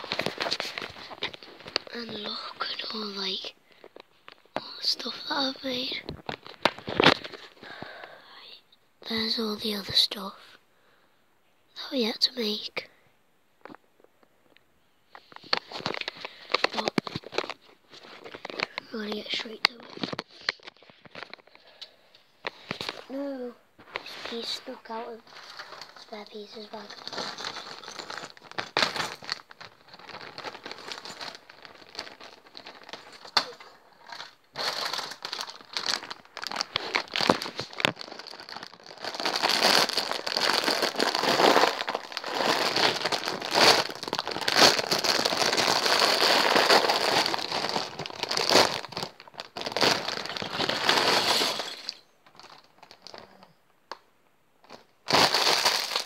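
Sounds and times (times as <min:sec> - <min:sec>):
plastic packaging crinkling: 0:00.0 - 0:08.0, 0:15.2 - 0:23.2, 0:23.8 - 0:54.0, 0:54.6 - 0:56.0.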